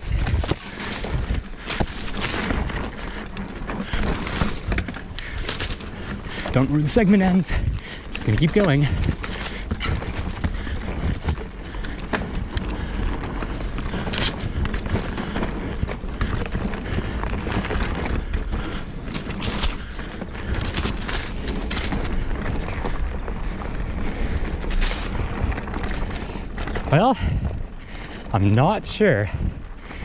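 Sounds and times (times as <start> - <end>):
bike rattling and knocking: 0.0 - 30.0
bike tyres on dirt: 0.0 - 30.0.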